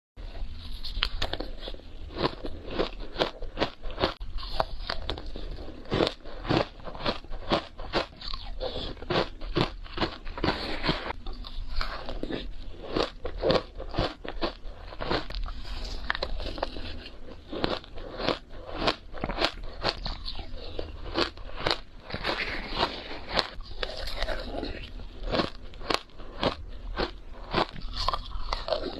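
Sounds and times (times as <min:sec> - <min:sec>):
chewing and crunching shaved ice: 0:00.3 - 0:28.9.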